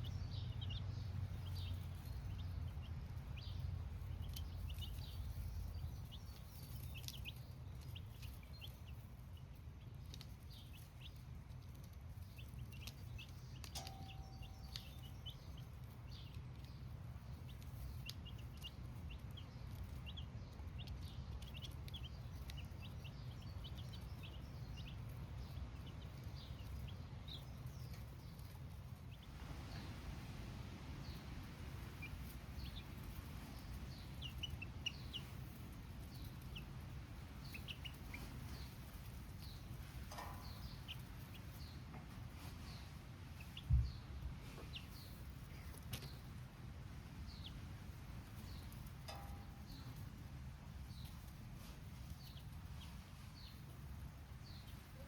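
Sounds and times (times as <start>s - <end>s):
chicks cheeping: 0.0s - 55.0s
steady low rumble: 0.0s - 55.0s.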